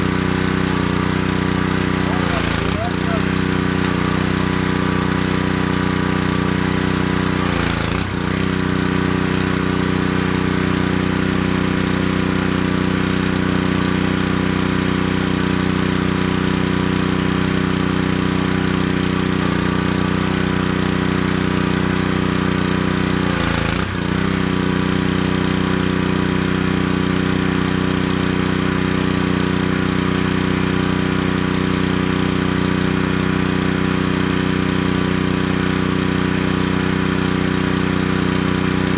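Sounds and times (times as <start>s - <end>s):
pressure washer engine running: 0.0s - 38.9s.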